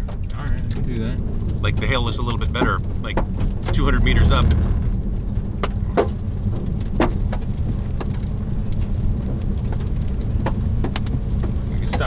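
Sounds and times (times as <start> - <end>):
hailstones knocking on car roof: 0.0 - 4.1, 4.9 - 12.0
car driving rumble: 0.0 - 12.0.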